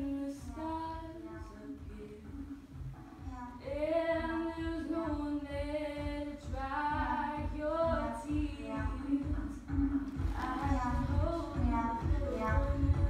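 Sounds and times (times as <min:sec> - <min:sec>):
women singing unaccompanied: 0:00.0 - 0:02.6, 0:03.2 - 0:13.0.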